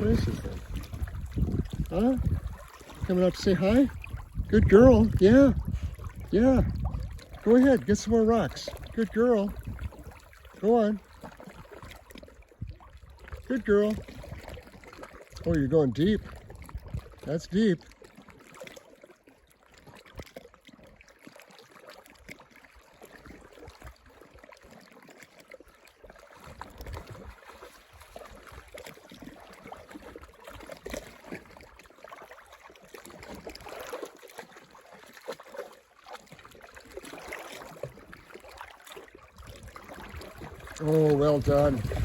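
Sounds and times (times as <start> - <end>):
small splashes and knocks: 0.0 - 15.5, 16.2 - 42.0
water lapping and trickling: 0.0 - 42.0.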